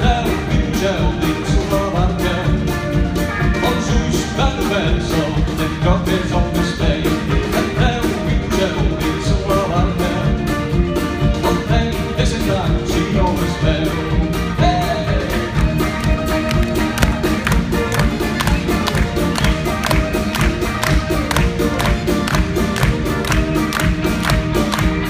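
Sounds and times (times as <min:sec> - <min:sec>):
live band with fast beat: 0:00.0 - 0:25.0.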